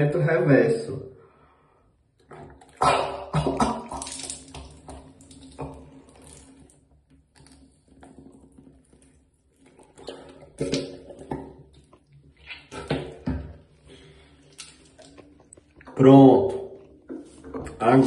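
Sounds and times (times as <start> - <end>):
nasal rinse squirting water: 2.0 - 18.0.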